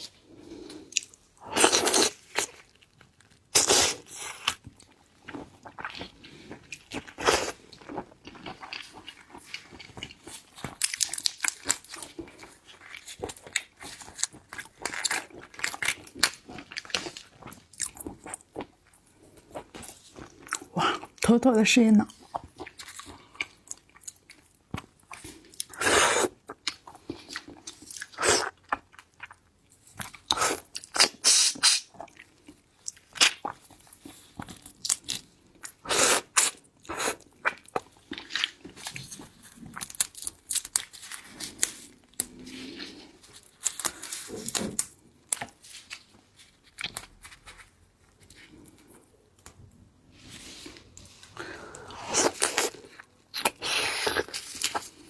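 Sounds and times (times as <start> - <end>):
person chewing: 0.0 - 21.2, 22.1 - 49.2, 50.2 - 55.0.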